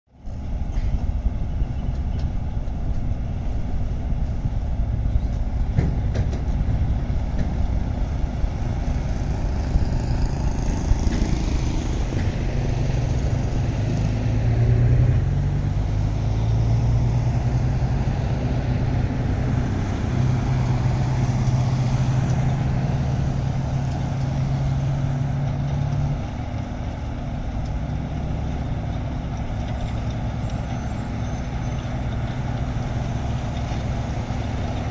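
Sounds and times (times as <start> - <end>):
heavy machinery diesel engine: 0.1 - 34.9.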